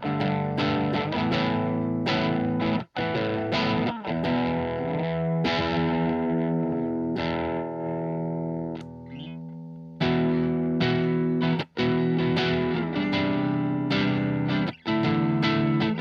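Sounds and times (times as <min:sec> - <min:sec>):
distorted electric guitar chords: 0:00.0 - 0:16.0.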